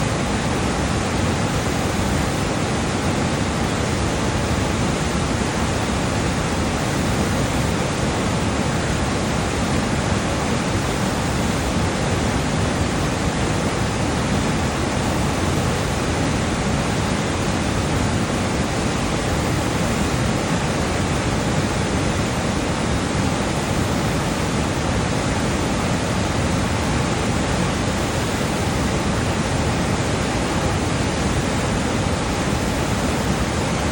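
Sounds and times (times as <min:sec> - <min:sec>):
whitewater rushing over boulders: 0:00.0 - 0:33.9.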